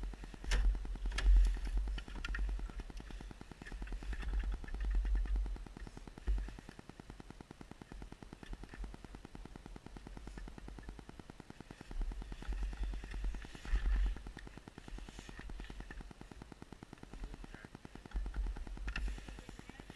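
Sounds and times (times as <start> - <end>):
snowmobile engine idling: 0.0 - 19.9.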